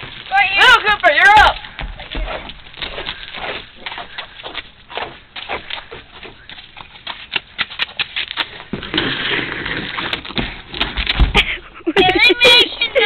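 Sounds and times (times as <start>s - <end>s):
shoes sliding on ice: 0.0s - 11.3s
child running footsteps: 0.0s - 12.2s.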